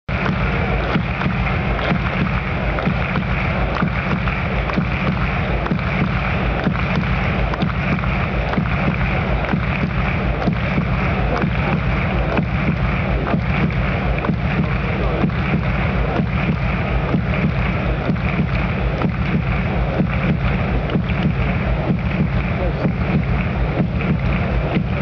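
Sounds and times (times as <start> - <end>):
crowd murmur: 0.1 - 25.0.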